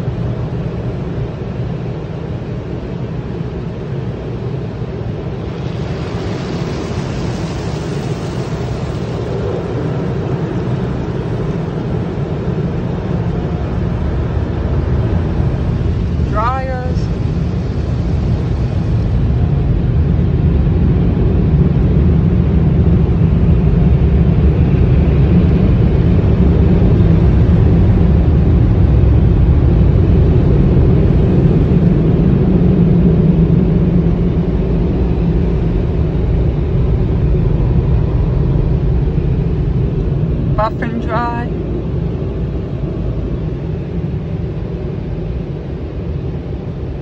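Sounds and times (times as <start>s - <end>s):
car wash machinery rumbling: 0.0s - 47.0s.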